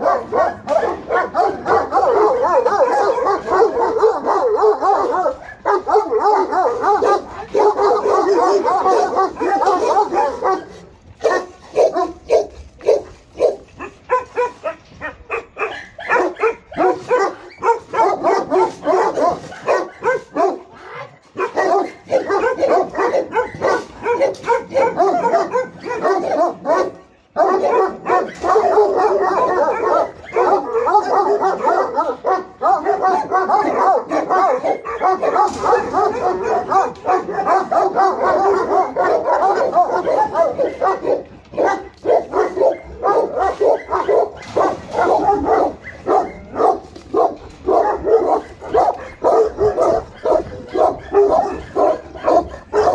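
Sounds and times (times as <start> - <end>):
large dogs barking: 0.0 - 52.9.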